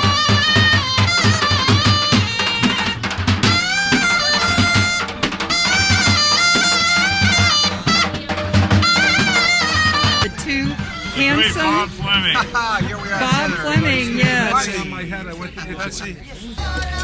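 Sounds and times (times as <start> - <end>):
steady drum beat: 0.0 - 15.0
wind instrument melody: 0.0 - 15.0.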